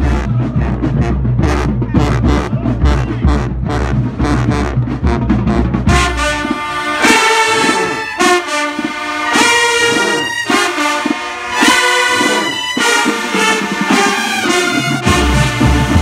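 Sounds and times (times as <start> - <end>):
marching band horns playing: 0.0 - 16.0.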